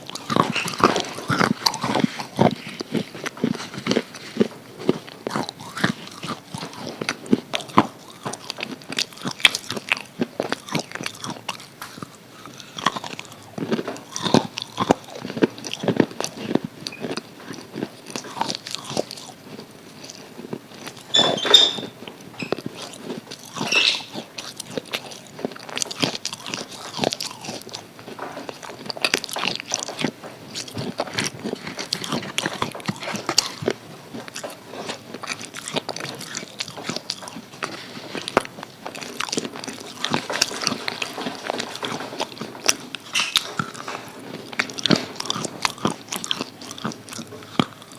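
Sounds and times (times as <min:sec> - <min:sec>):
person chewing crispy fried chicken: 0:00.0 - 0:47.9.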